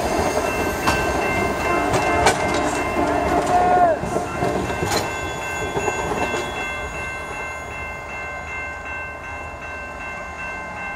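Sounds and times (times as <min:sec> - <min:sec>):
pulsing high ringing tone: 0:00.0 - 0:10.9
train cars rumbling past: 0:00.0 - 0:10.9.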